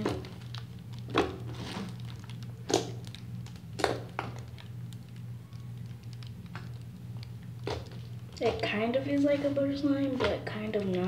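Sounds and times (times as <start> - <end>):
slime popping: 0.0 - 11.0
steady low hum: 0.0 - 11.0.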